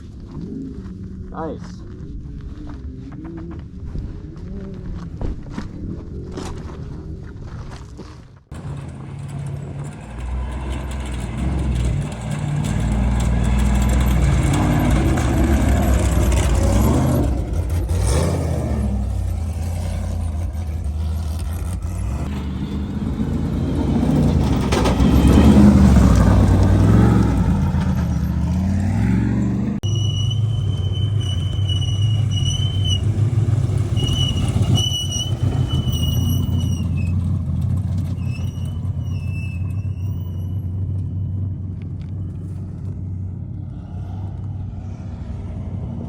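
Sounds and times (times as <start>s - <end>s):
race vehicle engines revving: 8.5s - 46.0s.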